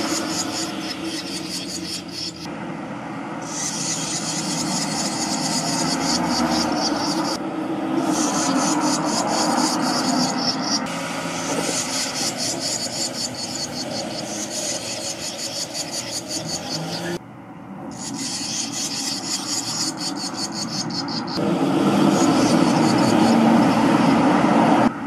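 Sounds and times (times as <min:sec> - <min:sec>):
nestlings begging calls: 0:00.0 - 0:02.5, 0:03.4 - 0:17.2, 0:17.9 - 0:24.7.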